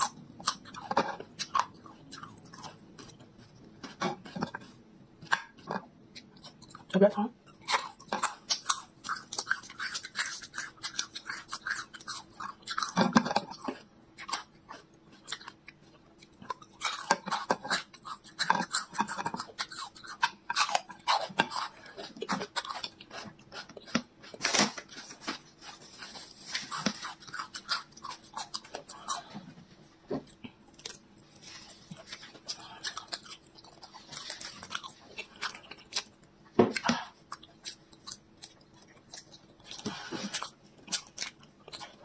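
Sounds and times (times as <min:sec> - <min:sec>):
crunching and chewing garlic: 0:00.0 - 0:42.0.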